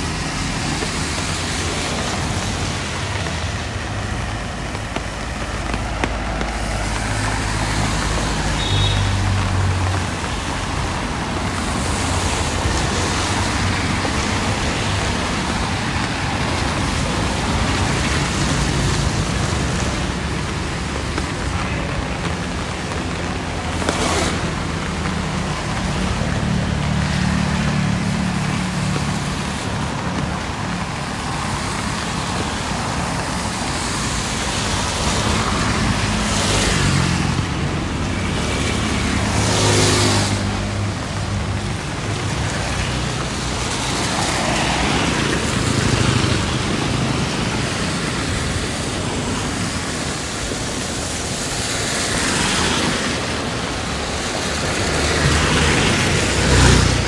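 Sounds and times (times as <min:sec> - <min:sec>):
steady traffic hiss: 0:00.0 - 0:57.0
vehicle engines passing: 0:00.0 - 0:57.0.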